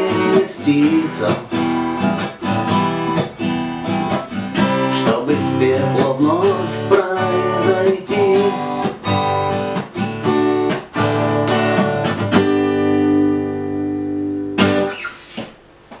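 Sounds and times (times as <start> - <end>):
acoustic guitar strumming chords: 0.0 - 15.1.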